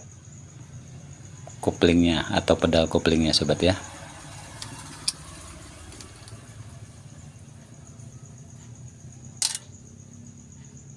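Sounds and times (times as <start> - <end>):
vehicle engine idling: 0.2 - 10.9.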